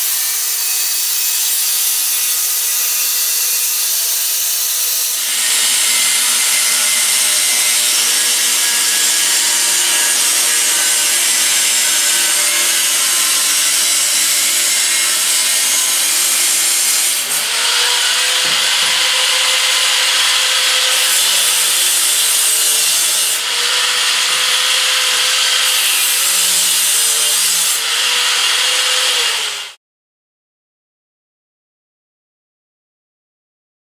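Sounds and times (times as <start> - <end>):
angle grinder cutting steel: 0.0 - 29.8.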